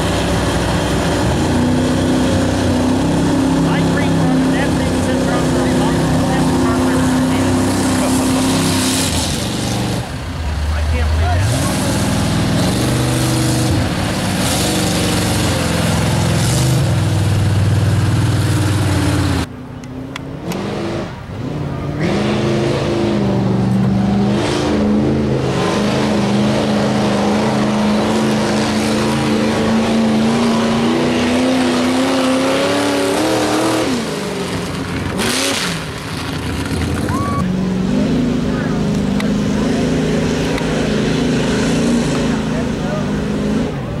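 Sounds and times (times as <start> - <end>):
truck engines revving: 0.0 - 44.0.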